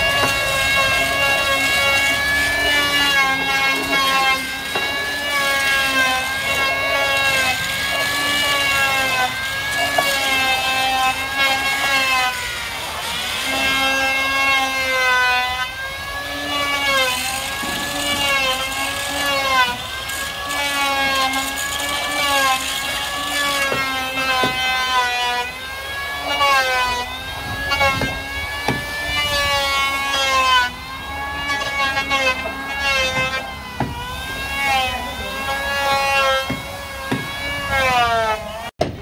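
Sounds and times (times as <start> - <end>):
power tool motor whining: 0.0 - 38.7.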